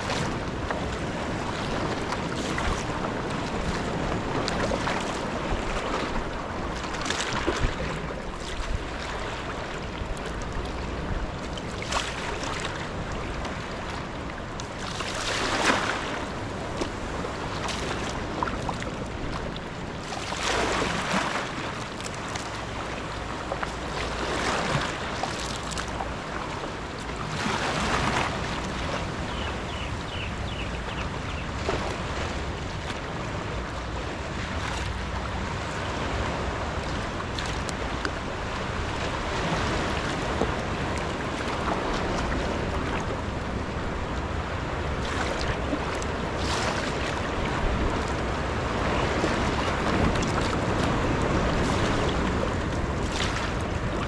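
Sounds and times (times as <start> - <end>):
paddle blades splashing: 0.0 - 54.0
water washing along kayak hull: 0.0 - 54.0.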